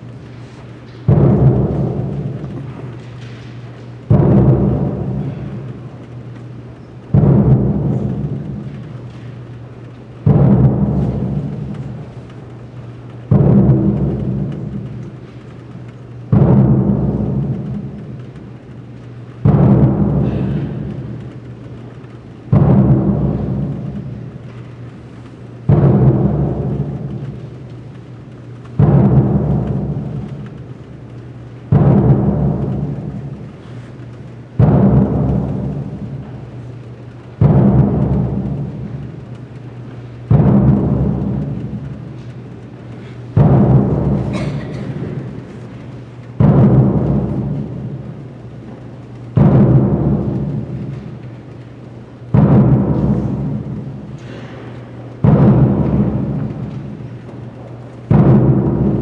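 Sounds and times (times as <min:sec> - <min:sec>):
deep percussion beats ringing: 0:00.0 - 0:59.0
low hum: 0:00.0 - 0:59.0.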